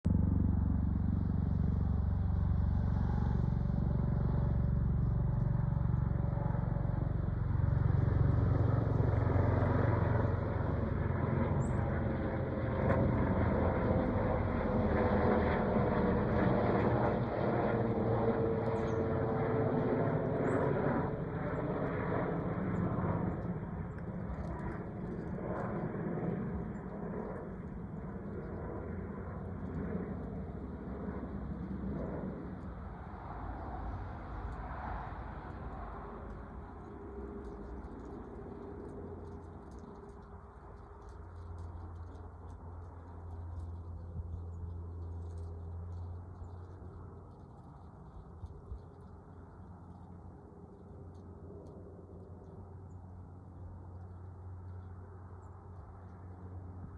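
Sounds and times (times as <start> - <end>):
helicopter passing overhead: 0.0 - 56.9.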